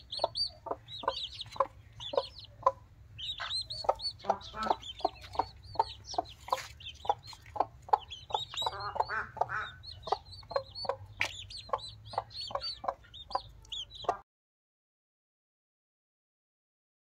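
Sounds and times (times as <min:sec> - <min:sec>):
chicks peeping: 0:00.0 - 0:14.2
hen clucking: 0:00.0 - 0:14.2.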